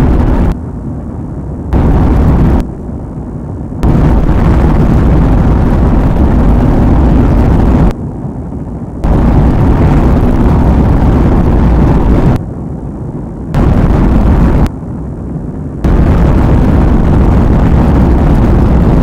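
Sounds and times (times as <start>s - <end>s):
loud steady rumbling: 0.0s - 19.0s.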